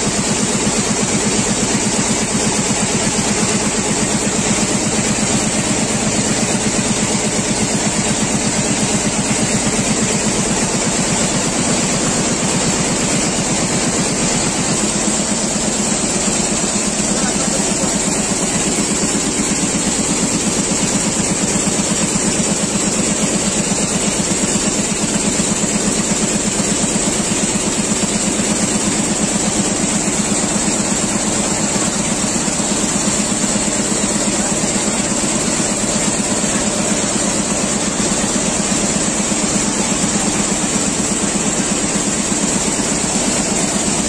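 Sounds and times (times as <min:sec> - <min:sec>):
quilting machine stitching: 0:00.1 - 0:44.0.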